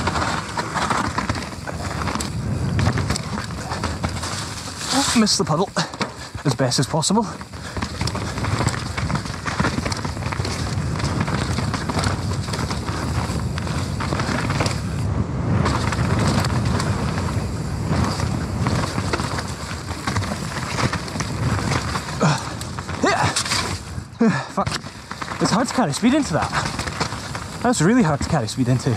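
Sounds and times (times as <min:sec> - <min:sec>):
bike clatter and rattling: 0:00.0 - 0:28.9
tyres rolling through mud: 0:00.0 - 0:28.9.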